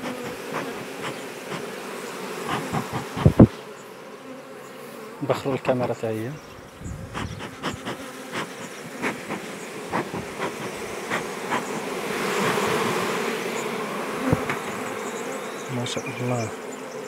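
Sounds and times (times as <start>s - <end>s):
bee smoker hissing: 0.0s - 17.0s
honeybees humming: 0.0s - 17.0s.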